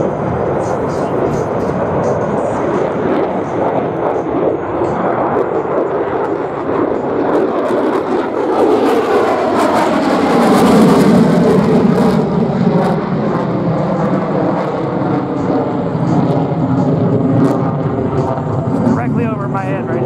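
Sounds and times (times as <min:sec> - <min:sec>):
jet roar flying past: 0:00.0 - 0:20.0.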